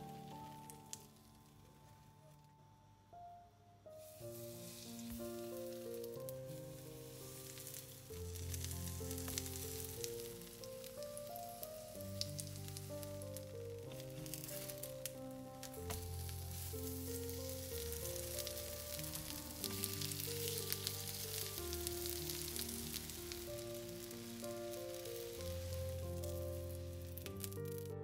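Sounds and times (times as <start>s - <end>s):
music of slow held notes: 0.0s - 28.0s
food sizzling in oil: 4.0s - 28.0s.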